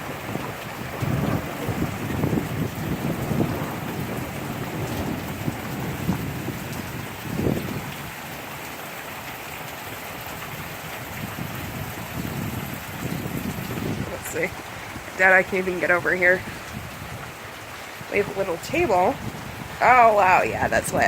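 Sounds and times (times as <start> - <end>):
heavy rain: 0.0 - 21.0
water pouring from gutters: 0.0 - 21.0.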